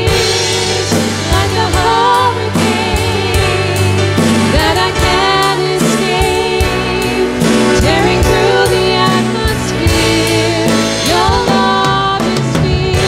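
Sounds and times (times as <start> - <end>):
electric guitar: 0.0 - 13.0
keyboard: 0.0 - 13.0
steady drum beat: 0.0 - 13.0
woman singing lead vocals: 0.0 - 13.0.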